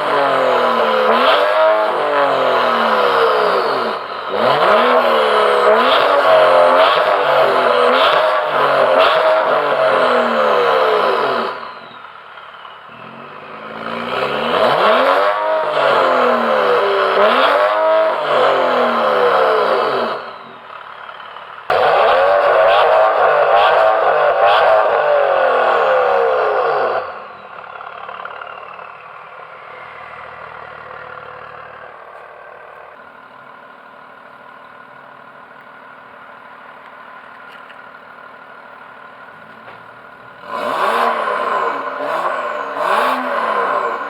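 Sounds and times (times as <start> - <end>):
car engine revving: 0.0 - 34.3, 37.5 - 44.0.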